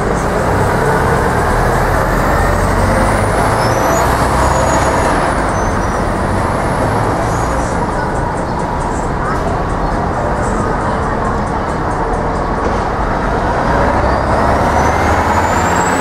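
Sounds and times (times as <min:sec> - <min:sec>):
bus engine rumble: 0:00.0 - 0:16.0
street traffic noise: 0:00.0 - 0:16.0.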